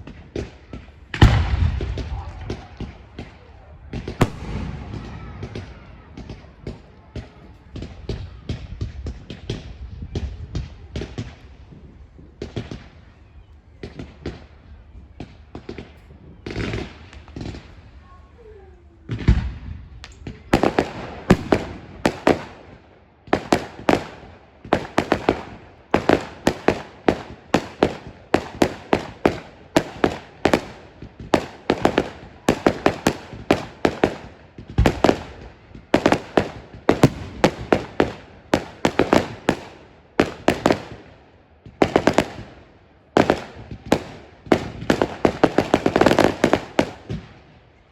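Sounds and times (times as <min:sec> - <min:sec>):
fireworks bangs: 0:00.0 - 0:13.2, 0:13.8 - 0:47.6.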